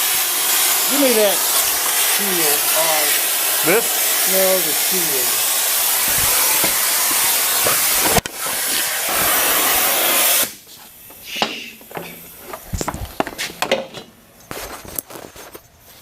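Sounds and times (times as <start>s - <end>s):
cutting torch hissing: 0.0s - 13.4s.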